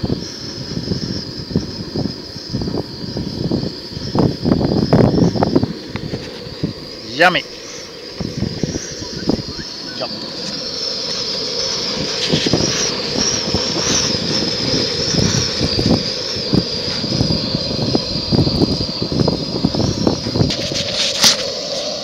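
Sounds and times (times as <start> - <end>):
camping stove burner hissing: 0.0 - 22.0
crackles and buffeting: 0.0 - 22.0
thin high whine: 0.0 - 22.0.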